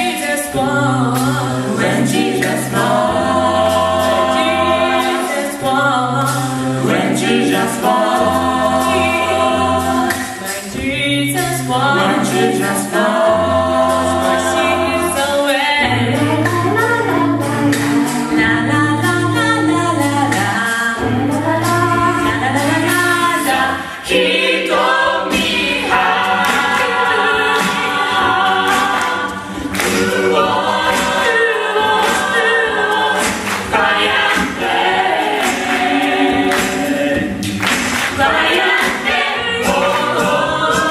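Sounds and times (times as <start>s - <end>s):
vocal group singing in harmony: 0.0s - 40.9s.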